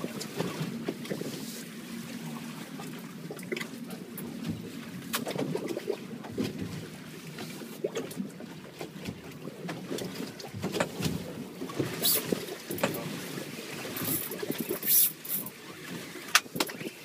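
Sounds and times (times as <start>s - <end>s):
water washing against hull: 0.0s - 17.0s.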